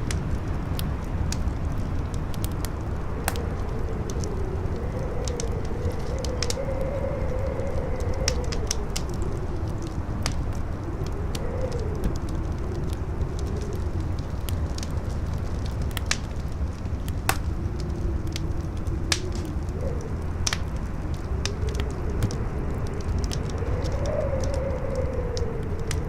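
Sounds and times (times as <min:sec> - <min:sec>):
campfire crackling and popping: 0:00.0 - 0:26.0
howling wind: 0:00.0 - 0:26.0
low wind rumble: 0:00.0 - 0:26.0.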